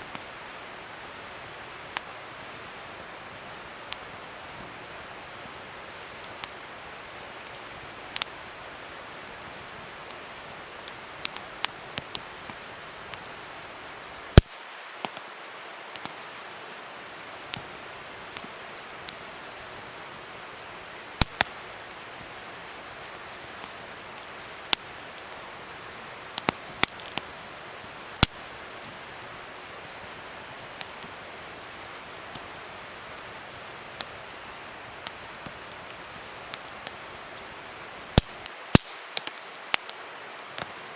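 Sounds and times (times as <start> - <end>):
fire hissing: 0.0 - 15.2, 15.9 - 40.9
wood fire crackling: 0.0 - 40.9.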